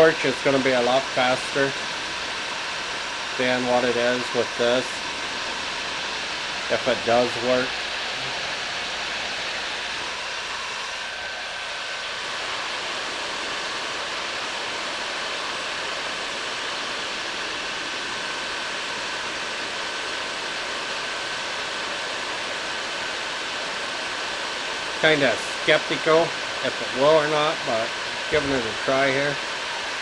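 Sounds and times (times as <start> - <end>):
faint high whine: 0.0 - 30.0
heat gun blowing air: 0.0 - 30.0.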